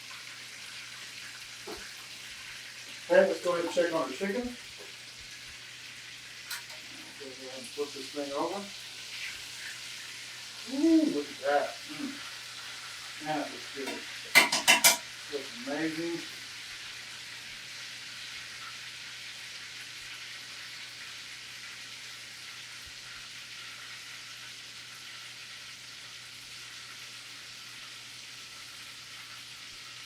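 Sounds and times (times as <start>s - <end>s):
chicken sizzling in frying pan: 0.0s - 30.0s.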